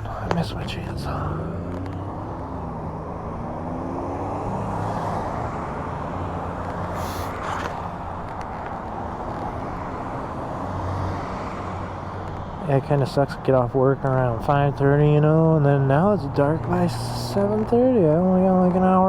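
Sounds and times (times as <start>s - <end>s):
hum of vehicle engines: 0.0s - 19.0s.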